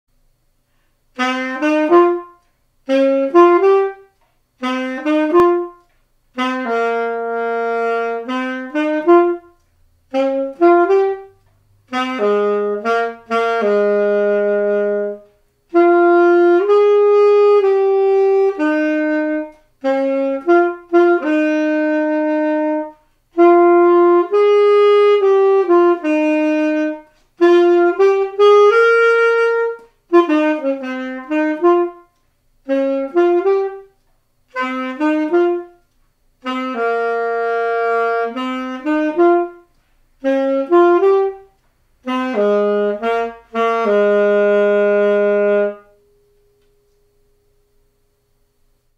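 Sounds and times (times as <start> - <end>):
alto saxophone solo: 0.7 - 46.1.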